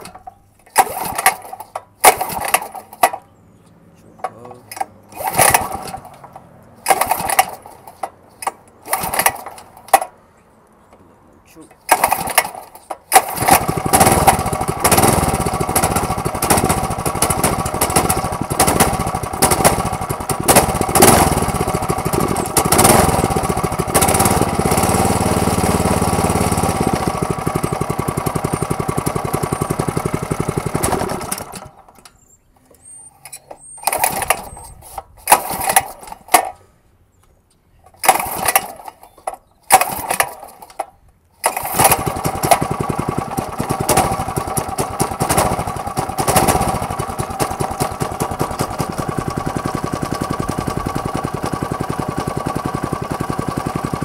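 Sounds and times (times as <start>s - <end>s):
small engine running on choke: 0.8s - 3.2s, 4.7s - 8.0s, 8.8s - 9.6s, 11.9s - 31.8s, 33.8s - 36.4s, 38.0s - 39.1s, 39.7s - 40.8s, 41.4s - 54.0s.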